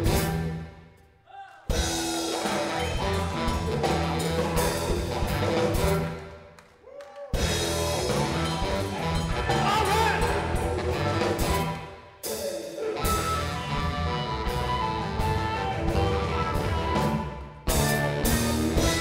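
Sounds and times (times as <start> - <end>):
blues-rock band playing: 0.0 - 0.7, 1.7 - 6.5, 7.3 - 19.0.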